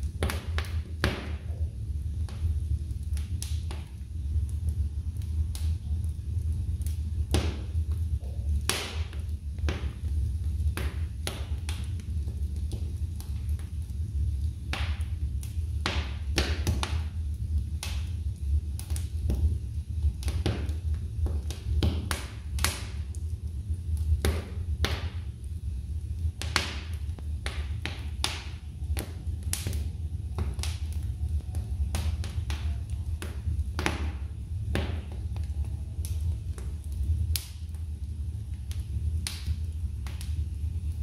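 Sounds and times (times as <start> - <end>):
fire low rumble: 0.0 - 41.0
logs crackling and popping: 0.0 - 41.0.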